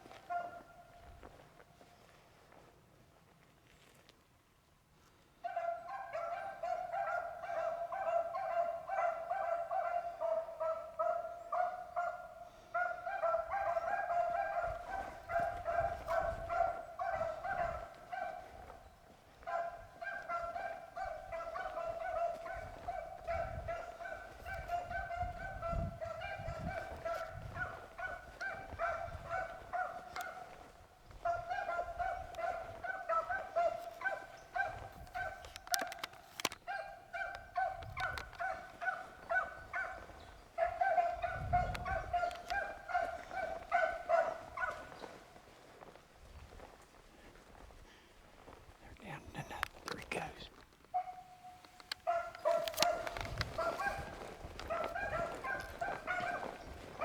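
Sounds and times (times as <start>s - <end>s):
hounds baying: 0.0s - 1.4s, 5.4s - 57.0s.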